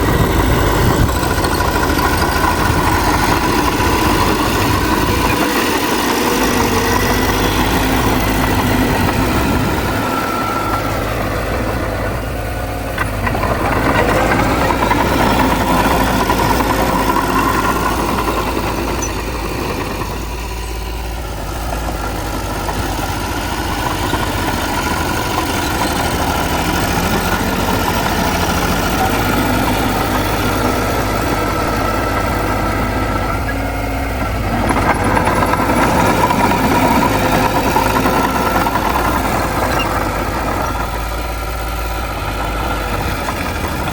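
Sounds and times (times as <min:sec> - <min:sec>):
heavy diesel machinery engines: 0:00.0 - 0:43.9.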